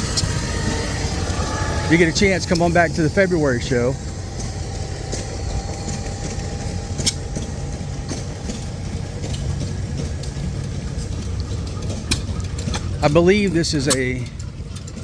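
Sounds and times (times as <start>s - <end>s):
stationary gas engines rumbling: 0.0s - 15.0s.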